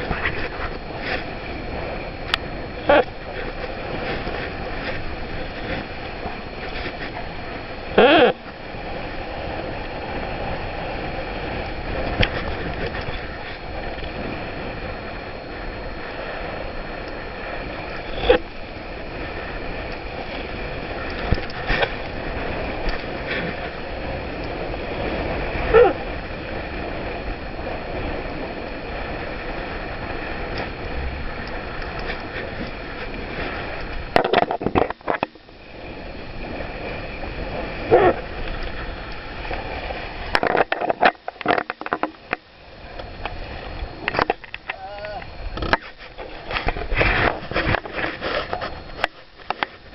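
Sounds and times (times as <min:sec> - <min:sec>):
water washing along a hull: 0:00.0 - 0:49.9
wind rushing over microphone: 0:00.0 - 0:49.9.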